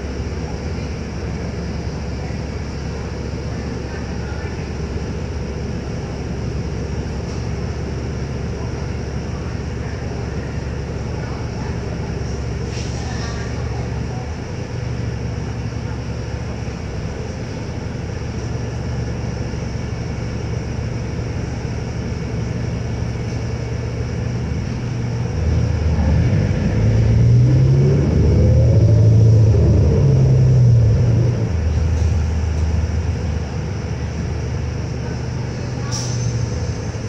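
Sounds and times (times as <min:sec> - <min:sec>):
diesel bus engine: 0:00.0 - 0:37.0.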